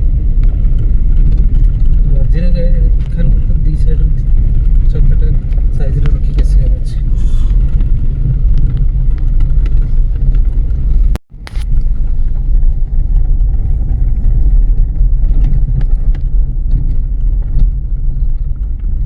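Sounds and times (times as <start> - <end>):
vehicle rumble on rough road: 0.0 - 19.0.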